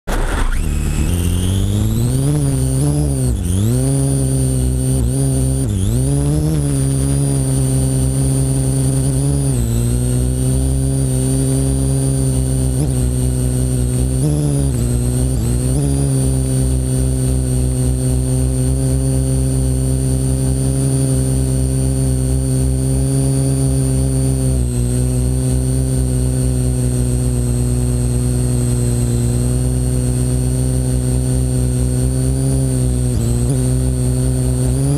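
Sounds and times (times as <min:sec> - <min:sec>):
drone propellers whining: 0:00.1 - 0:34.9.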